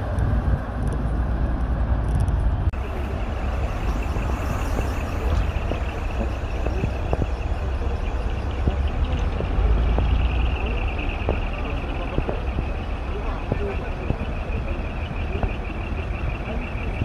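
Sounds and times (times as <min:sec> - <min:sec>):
heavy trucks driving past: 0:00.0 - 0:17.0.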